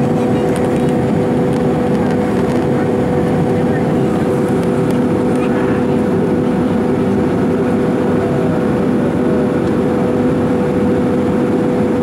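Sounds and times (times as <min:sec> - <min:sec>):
airplane cabin engine rush: 0:00.0 - 0:12.0
constant hum: 0:00.0 - 0:12.0.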